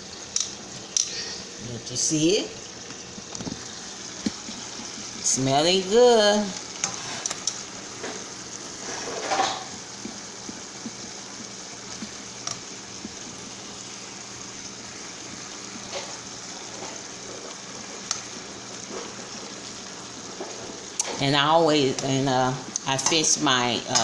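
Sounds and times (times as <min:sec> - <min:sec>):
chicken sizzling in a skillet: 0:00.0 - 0:24.0.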